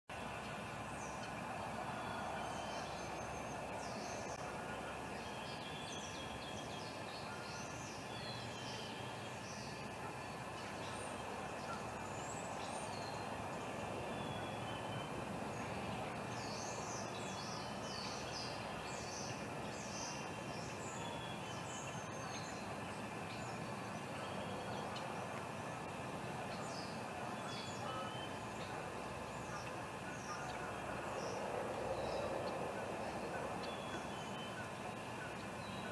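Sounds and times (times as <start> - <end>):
outdoor background rush: 0.1 - 35.9
songbirds chirping and singing: 0.1 - 35.9.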